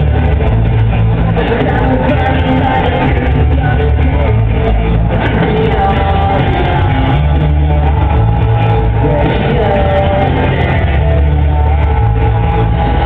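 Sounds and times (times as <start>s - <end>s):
man singing: 0.0s - 12.0s
live rock band playing loudly: 0.0s - 13.0s.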